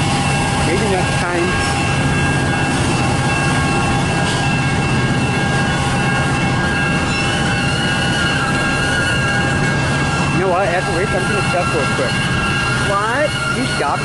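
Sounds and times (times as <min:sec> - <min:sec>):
freight train rumbling: 0:00.0 - 0:14.0
train wheels squealing: 0:00.0 - 0:14.0.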